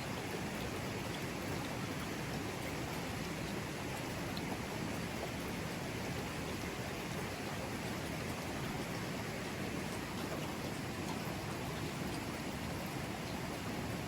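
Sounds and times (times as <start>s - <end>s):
river water flowing over rocks: 0.0s - 14.0s.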